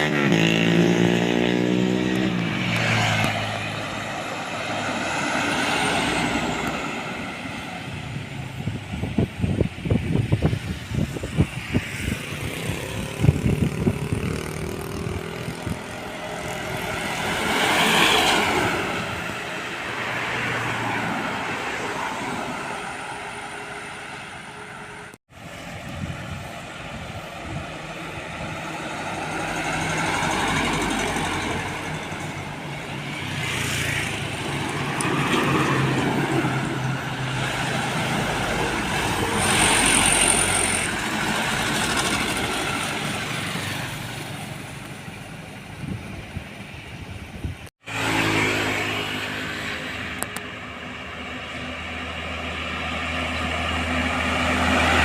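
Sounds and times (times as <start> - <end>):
diesel trucks passing: 0.0 - 55.0.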